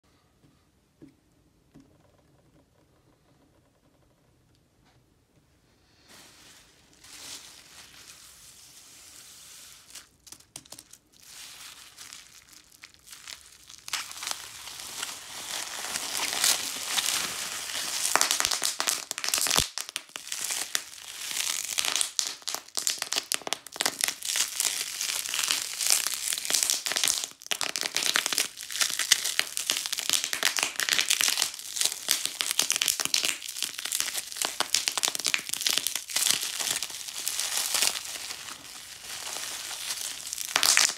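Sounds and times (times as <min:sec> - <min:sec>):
bubble wrap rustling: 0:05.9 - 0:40.9
bubble wrap popping: 0:06.1 - 0:40.9.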